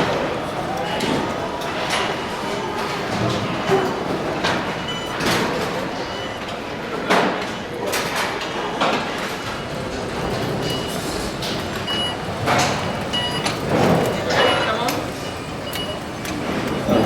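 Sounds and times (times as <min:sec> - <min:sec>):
voices: 0:00.0 - 0:17.0.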